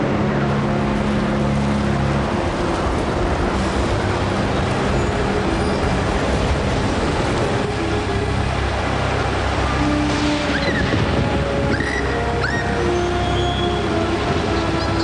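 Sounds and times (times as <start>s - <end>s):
heavy rain: 0.0s - 15.0s
wind: 0.0s - 15.0s.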